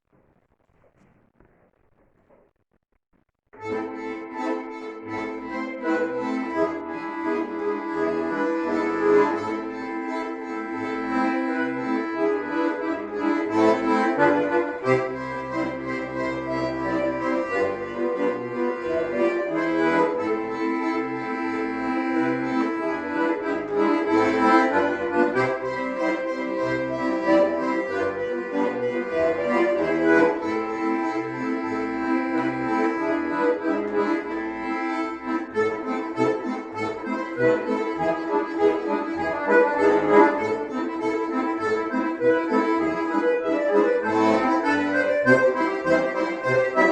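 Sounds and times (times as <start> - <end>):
accordion duet playing folk music: 3.6 - 46.9.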